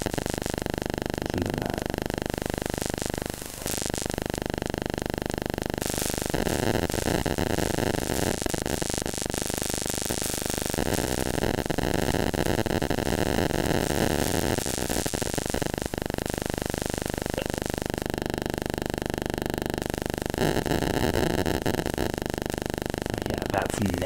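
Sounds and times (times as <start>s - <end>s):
buzzing digital static: 0.0s - 24.0s.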